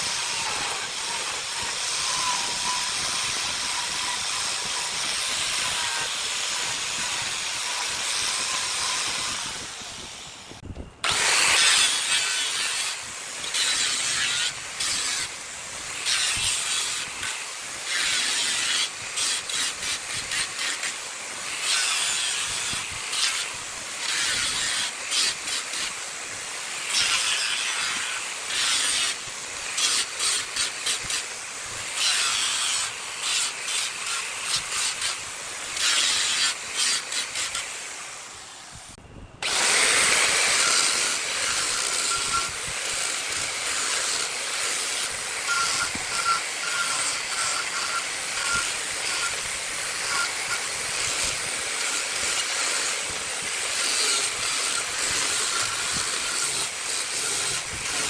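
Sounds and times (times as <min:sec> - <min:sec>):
lathe tool hissing on spinning wood: 0:00.0 - 0:38.8, 0:39.4 - 0:58.0.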